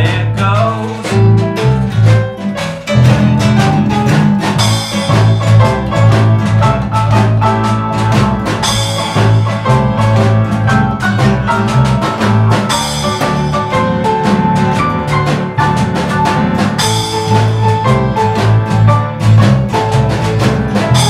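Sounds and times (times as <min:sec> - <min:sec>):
music with drum beat and bass: 0:00.0 - 0:21.0.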